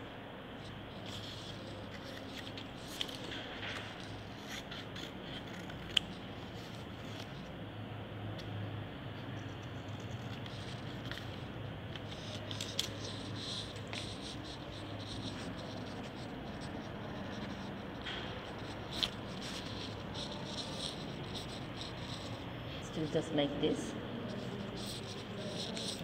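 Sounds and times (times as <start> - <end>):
steady low hum: 0.0 - 26.0
scissors cutting paper: 1.0 - 7.4, 9.6 - 22.4, 24.3 - 26.0.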